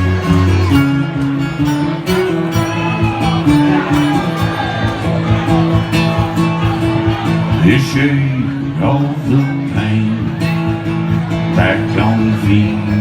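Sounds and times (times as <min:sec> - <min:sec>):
bass notes: 0:00.0 - 0:13.0
lead guitar: 0:00.0 - 0:13.0.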